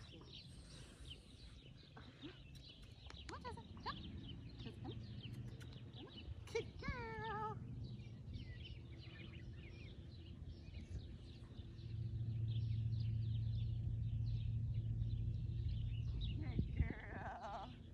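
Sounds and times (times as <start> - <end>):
low steady hum: 0.0 - 17.9
small birds chirping: 0.0 - 17.9.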